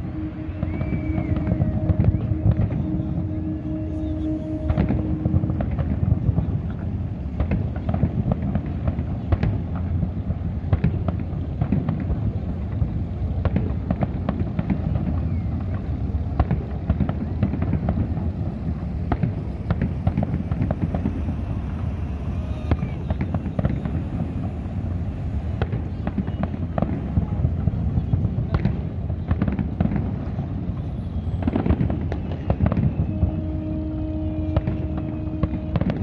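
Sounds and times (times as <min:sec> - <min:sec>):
fireworks bangs and crackles: 0:00.0 - 0:36.0
steady low rumble: 0:00.0 - 0:36.0.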